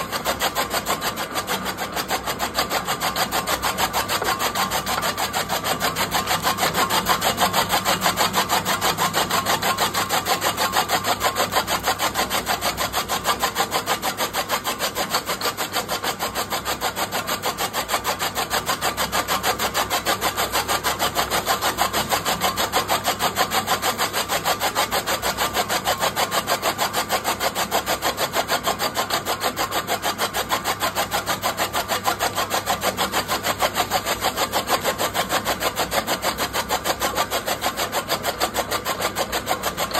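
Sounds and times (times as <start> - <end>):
chaff cutter chopping stalks: 0.0 - 18.3, 18.9 - 39.9.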